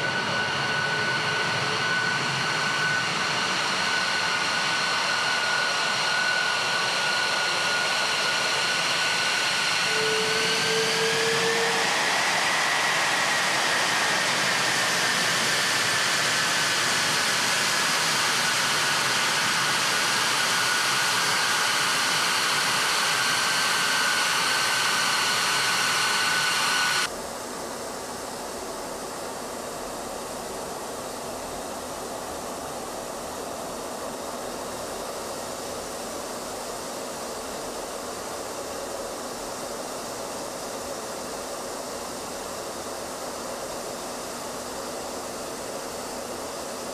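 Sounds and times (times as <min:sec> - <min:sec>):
jet engine rush with whine: 0:00.0 - 0:46.9.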